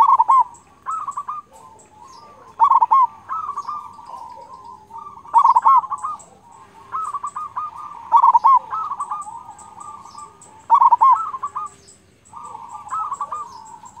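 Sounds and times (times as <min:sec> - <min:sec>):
deep dove call: 0:00.0 - 0:14.0
dove cooing: 0:00.0 - 0:14.0.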